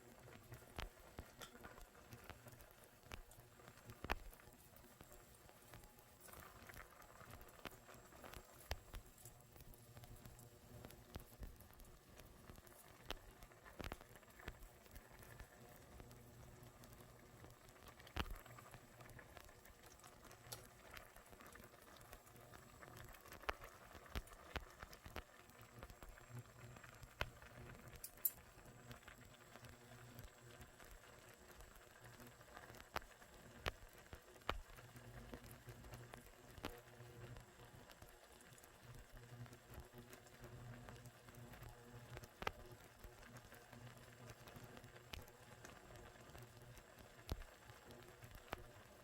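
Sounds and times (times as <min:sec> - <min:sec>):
noodles boiling with pops: 0:00.0 - 0:49.0.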